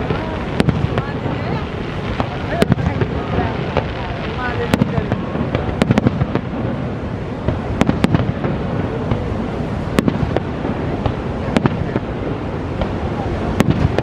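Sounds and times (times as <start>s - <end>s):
fireworks bursting cracks: 0.0s - 14.0s
waterfall roar: 0.0s - 14.0s.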